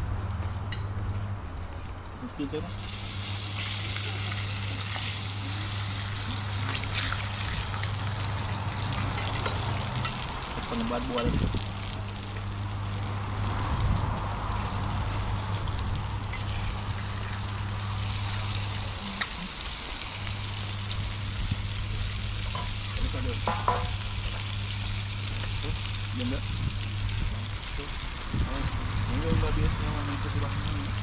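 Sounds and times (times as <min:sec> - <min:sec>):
low steady hum: 0:00.0 - 0:31.0
food sizzling in hot oil: 0:02.6 - 0:31.0.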